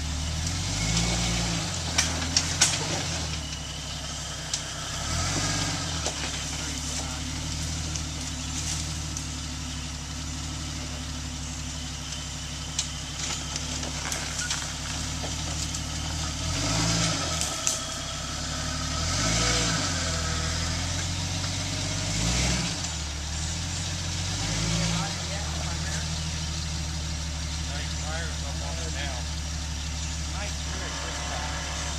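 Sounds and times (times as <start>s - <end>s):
engine idling and revving: 0.0s - 31.9s.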